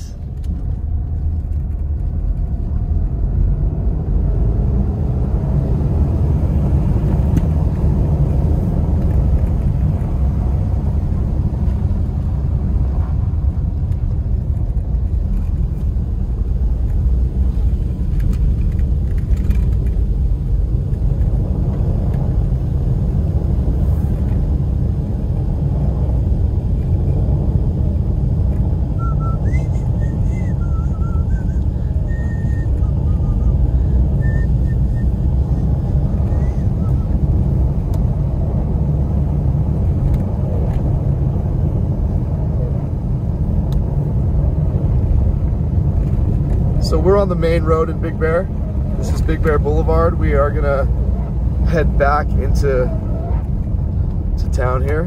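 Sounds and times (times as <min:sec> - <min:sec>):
car driving on snowy road: 0:00.0 - 0:55.0.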